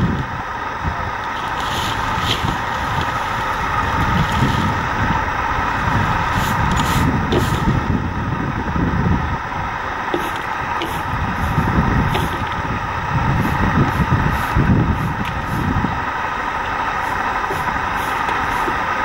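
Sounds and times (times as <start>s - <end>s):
steady engine noise: 0.0s - 19.0s
uneven low rumble: 0.0s - 19.0s.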